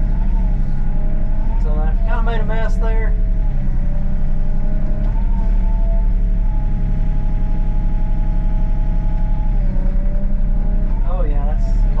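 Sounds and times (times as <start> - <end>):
excavator diesel engine rumbling: 0.0 - 12.0
hydraulic whine: 0.0 - 12.0.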